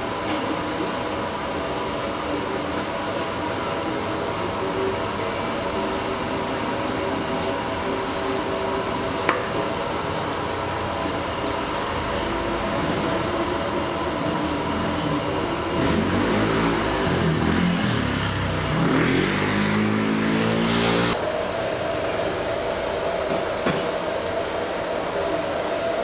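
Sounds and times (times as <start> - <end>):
busy street food stall hum: 0.0 - 26.0.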